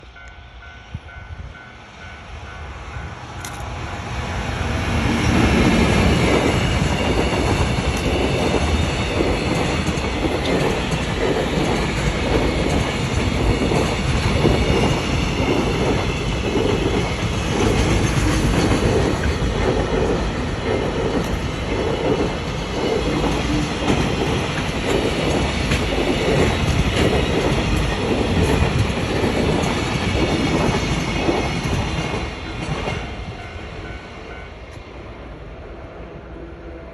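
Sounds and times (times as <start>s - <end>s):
freight train passing: 0.0s - 36.9s.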